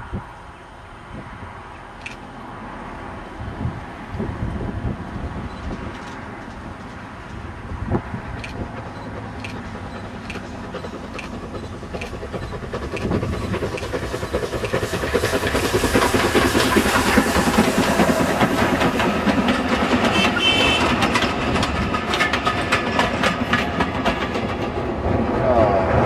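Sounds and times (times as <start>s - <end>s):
train running past: 0.0s - 26.0s
steam locomotive exhaust beats: 3.2s - 26.0s.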